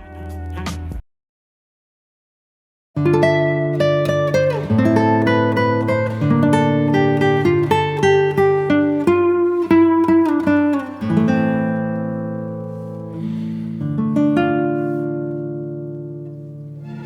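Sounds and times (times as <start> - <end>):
acoustic guitar music: 3.0 - 17.0.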